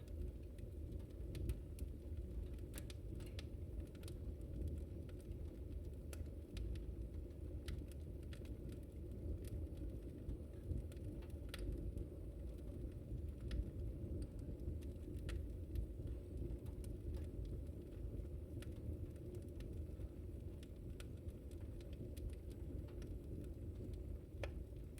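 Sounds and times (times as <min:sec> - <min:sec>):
low rumble of flames: 0:00.0 - 0:24.9
wood crackling and popping: 0:00.0 - 0:24.9.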